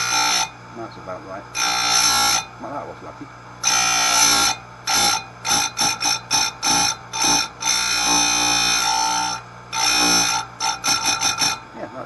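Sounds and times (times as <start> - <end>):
grinder wheel grinding chain tooth: 0.0 - 0.6, 1.6 - 2.5, 3.6 - 12.0
grinder motor hum: 0.0 - 12.0.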